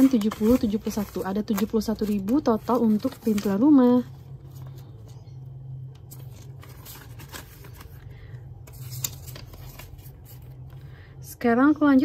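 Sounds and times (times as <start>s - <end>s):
banknotes rustling and crinkling: 0.0s - 11.0s
low steady hum: 0.0s - 12.0s.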